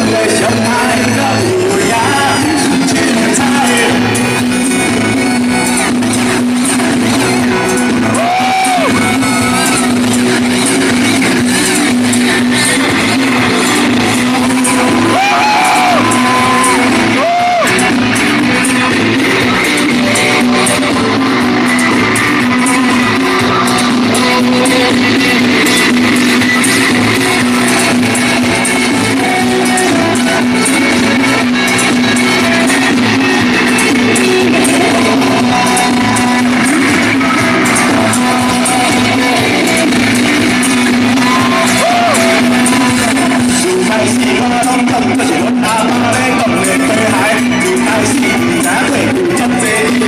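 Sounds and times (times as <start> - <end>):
bass guitar: 0.0 - 50.0
electric guitar: 0.0 - 50.0
rock band playing live: 0.0 - 50.0.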